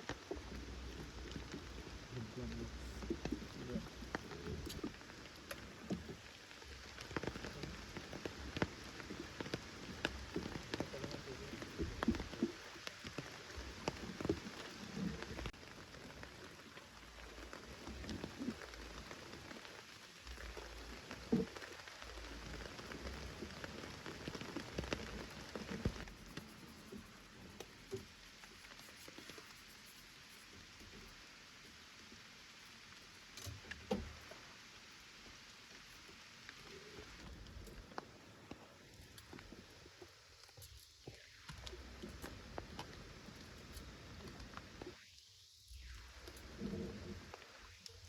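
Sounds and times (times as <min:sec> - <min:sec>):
rain falling: 0:00.0 - 0:45.0, 0:45.7 - 0:48.0
raindrops ticking: 0:00.0 - 0:45.0.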